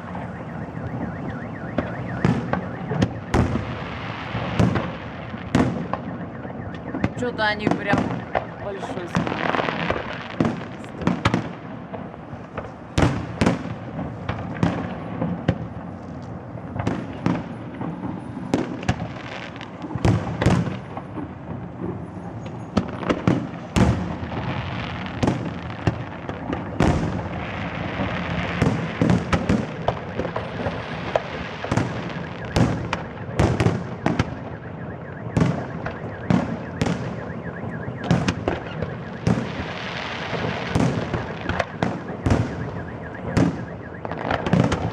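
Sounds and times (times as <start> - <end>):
fireworks bursting with sharp bangs: 0.0 - 44.9
fireworks crackling: 0.0 - 44.9.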